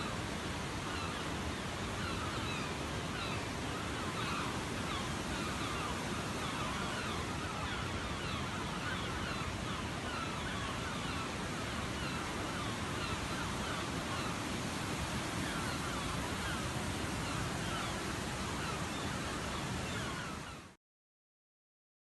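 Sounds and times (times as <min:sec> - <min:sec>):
falling bird calls: 0:00.9 - 0:20.8.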